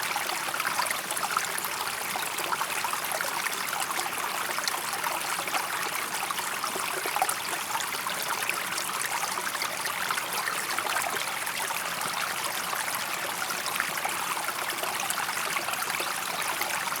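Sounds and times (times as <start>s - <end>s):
stream babbling and trickling: 0.0s - 17.0s.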